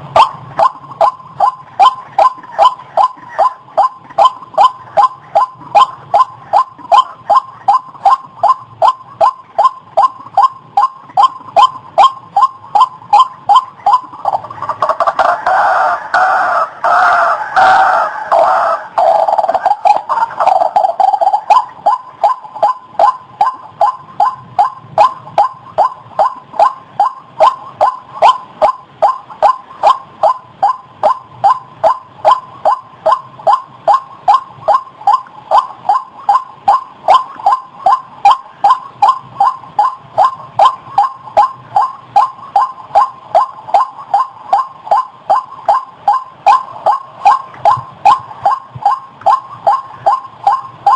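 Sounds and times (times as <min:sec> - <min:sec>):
waterhen calling: 0:00.2 - 0:50.9.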